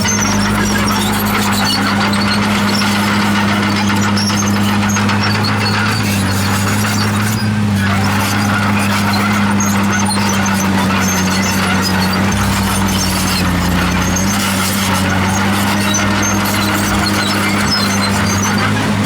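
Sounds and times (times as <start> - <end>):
bulldozer diesel engine running: 0.0 - 19.0
steel tracks squeaking: 0.0 - 19.0.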